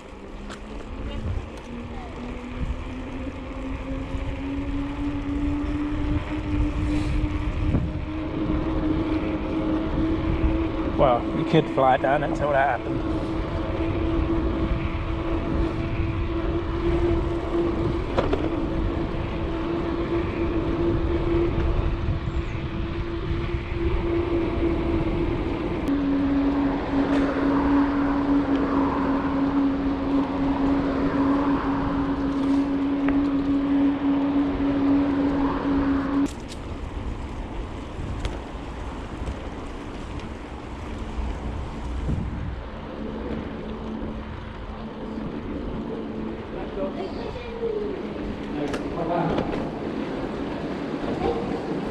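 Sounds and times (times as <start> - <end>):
steady whistling hum: 0.0 - 51.9
wind rushing over microphone: 0.0 - 51.9.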